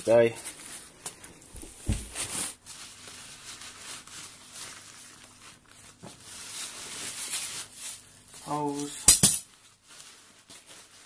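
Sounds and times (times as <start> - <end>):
plastic packaging crinkling: 0.0 - 11.0
nylon bag rustling: 1.6 - 11.0.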